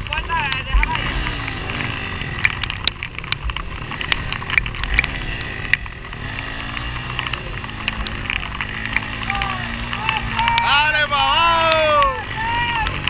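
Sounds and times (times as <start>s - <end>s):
quad bike engine revving: 0.0s - 13.0s
sharp clicks: 0.0s - 13.0s
wheels spinning in mud: 0.0s - 13.0s.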